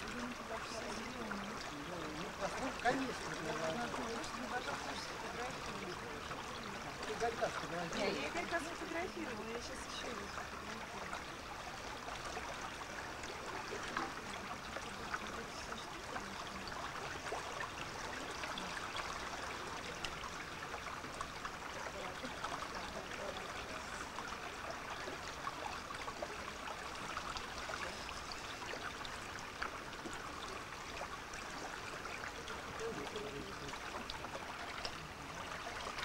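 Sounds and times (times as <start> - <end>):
river water babbling: 0.0 - 36.0.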